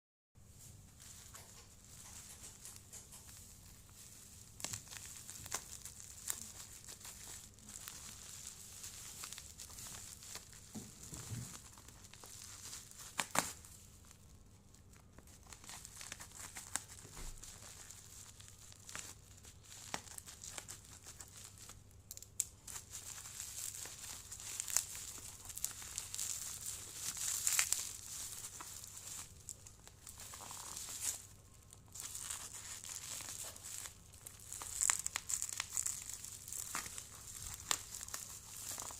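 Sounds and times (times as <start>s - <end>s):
wrapping crinkling and tearing: 0.9s - 38.9s.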